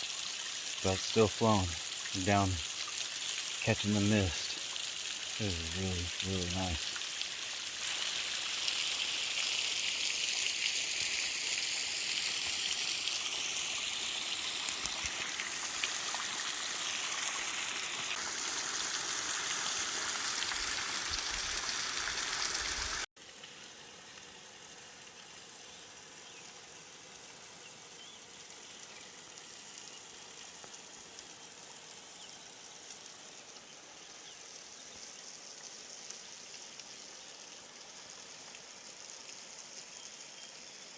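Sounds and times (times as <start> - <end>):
steady water hiss: 0.0 - 40.9
water trickling and splashing: 0.0 - 40.9.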